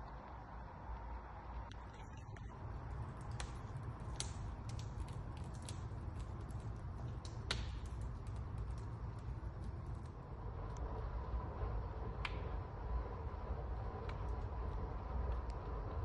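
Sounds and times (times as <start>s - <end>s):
low rumble of fire: 0.0s - 16.0s
wood fire crackling: 0.0s - 16.0s.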